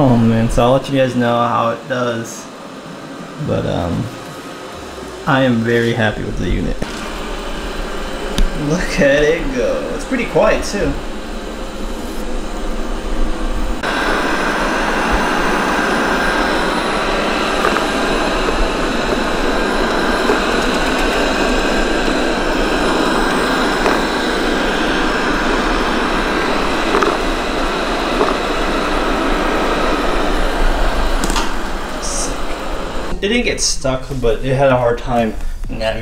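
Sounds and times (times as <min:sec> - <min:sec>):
robot vacuum running: 0:00.0 - 0:33.2.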